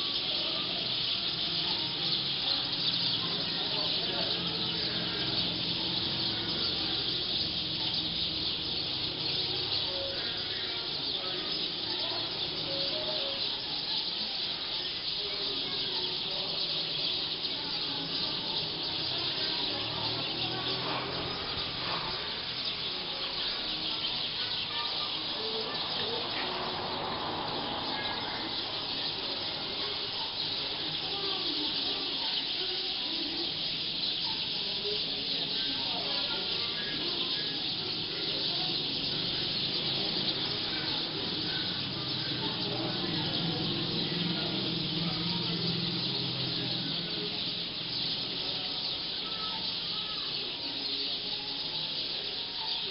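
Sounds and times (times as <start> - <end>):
flock of birds calling: 0.0 - 52.9.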